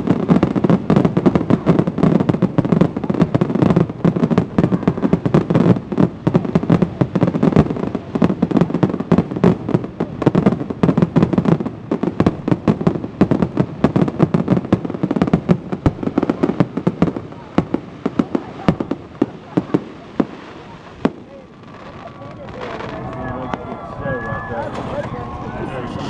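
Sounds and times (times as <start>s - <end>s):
fireworks bursting with bangs: 0.0s - 26.0s
fireworks crackling: 0.0s - 26.0s.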